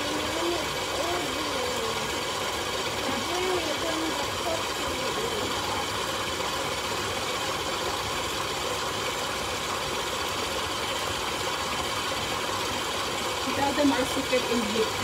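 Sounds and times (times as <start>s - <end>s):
stand mixer motor running: 0.0s - 15.0s.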